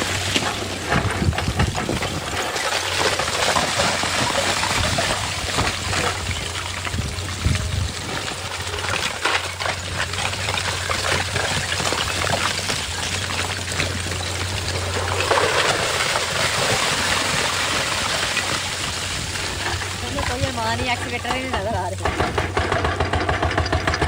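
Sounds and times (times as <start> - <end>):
water rushing and trickling: 0.0 - 22.2.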